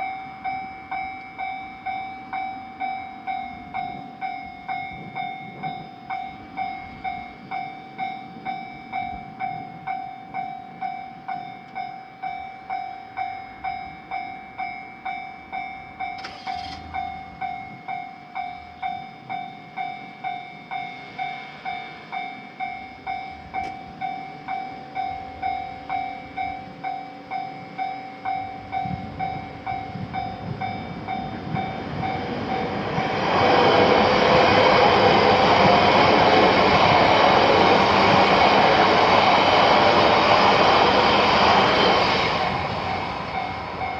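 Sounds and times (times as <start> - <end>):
railroad crossing alarm dinging: 0.0 - 43.9
train passing: 0.0 - 43.9.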